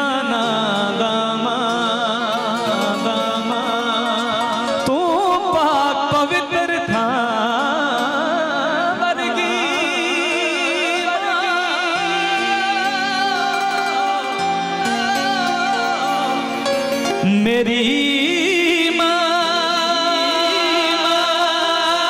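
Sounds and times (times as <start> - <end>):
man singing with vibrato: 0.0 - 22.0.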